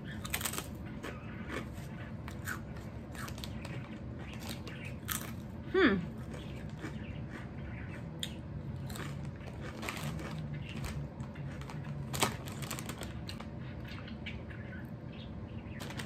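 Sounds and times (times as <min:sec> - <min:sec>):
potato chips crunching: 0:00.0 - 0:13.6.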